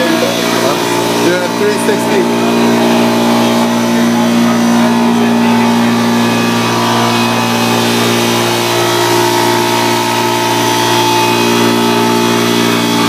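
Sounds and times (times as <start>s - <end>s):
model jet engine whining: 0.0s - 13.0s.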